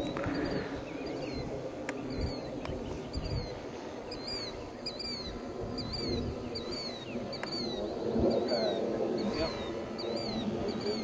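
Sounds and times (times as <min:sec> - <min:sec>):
model airplane engine drone: 0:00.0 - 0:11.0
songbird chirping: 0:00.0 - 0:11.0.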